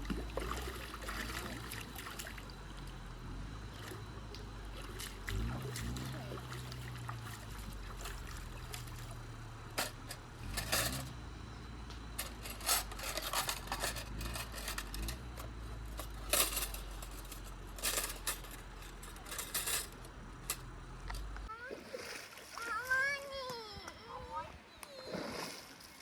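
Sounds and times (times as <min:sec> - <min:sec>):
steady low hum: 0:00.0 - 0:21.6.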